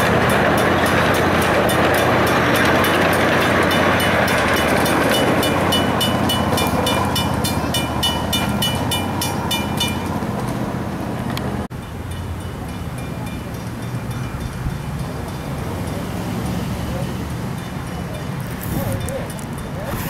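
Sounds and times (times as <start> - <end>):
crossing signal bell dinging: 0.0 - 10.6, 11.7 - 19.9
miniature train rumbling past: 0.0 - 20.0.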